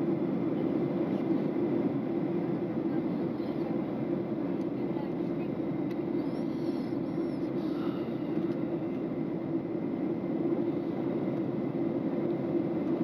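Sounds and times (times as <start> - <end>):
airliner cabin engine rush: 0.0 - 13.0.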